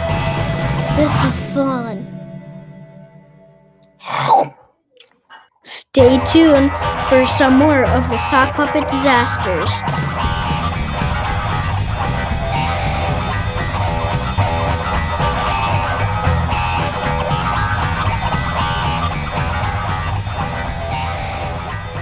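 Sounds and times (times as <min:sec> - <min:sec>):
music with guitar and steady beat: 0:00.0 - 0:03.2, 0:06.0 - 0:22.0.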